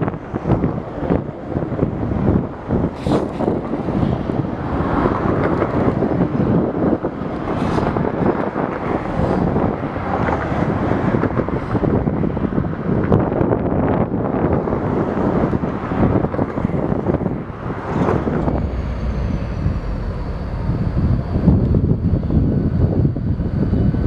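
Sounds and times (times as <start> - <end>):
freight train rolling past: 0.0 - 24.0
wind buffeting microphone: 0.0 - 24.0.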